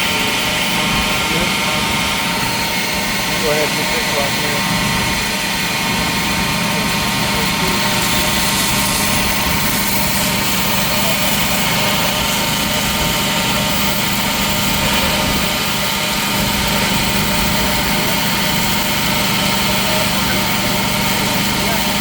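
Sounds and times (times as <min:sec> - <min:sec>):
machinery droning: 0:00.0 - 0:22.0
steady hums: 0:00.0 - 0:22.0.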